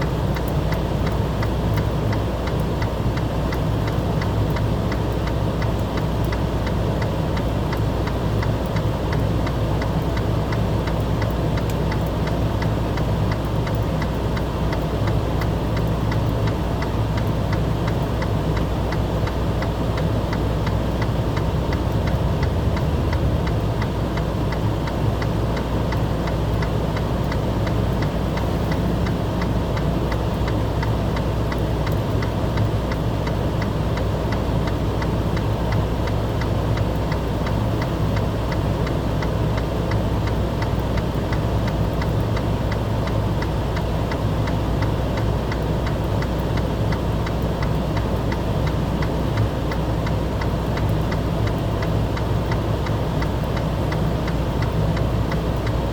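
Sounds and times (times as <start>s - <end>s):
engine idling with ticking: 0.0s - 55.9s.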